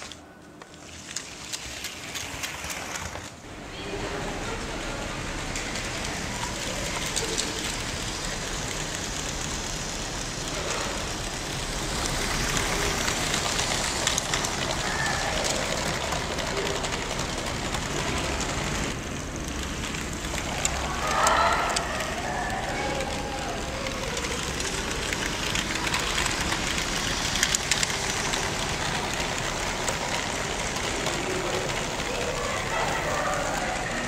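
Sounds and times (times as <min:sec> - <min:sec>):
small clicks over rails: 0:00.0 - 0:34.0
toy train wheels rattling: 0:00.0 - 0:34.0.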